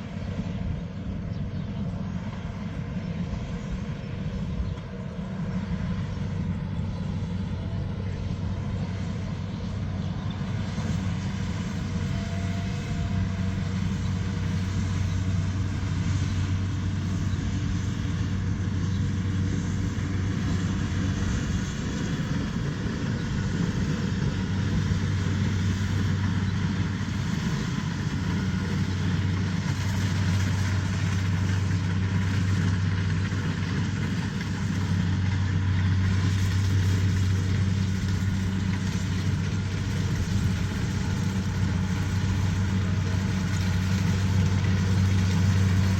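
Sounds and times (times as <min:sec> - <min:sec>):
heavy machine engine running: 0:00.0 - 0:45.9.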